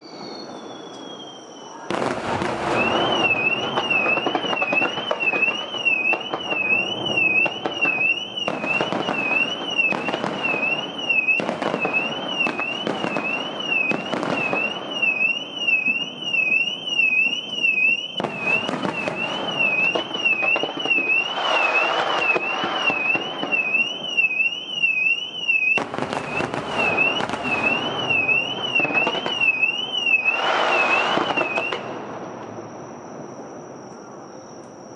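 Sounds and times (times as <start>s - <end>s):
fireworks bursting and crackling: 0.0s - 33.5s
car alarm warbling: 2.7s - 31.8s.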